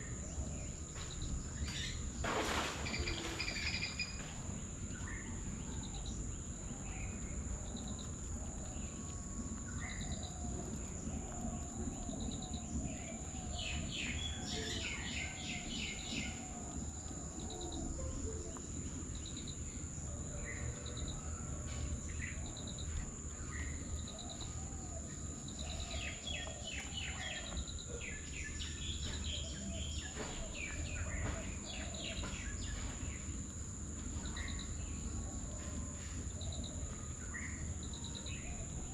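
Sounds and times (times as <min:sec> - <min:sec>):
short insect chirp: 0:00.0 - 0:33.6
birds chirping: 0:00.0 - 0:38.9
high insect drone: 0:00.0 - 0:38.9
low outdoor rumble: 0:00.0 - 0:38.9.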